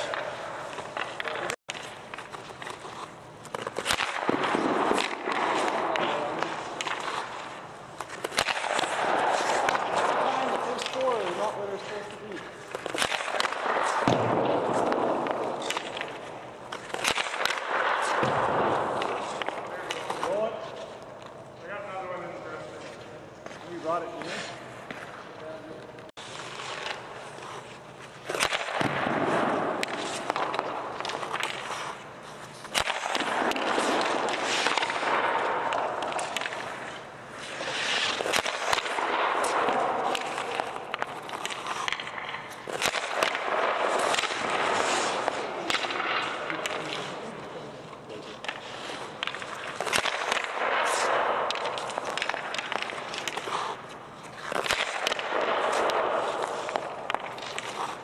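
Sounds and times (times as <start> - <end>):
skate blades scraping ice: 0.0 - 58.0
sticks cracking against pucks: 0.0 - 58.0.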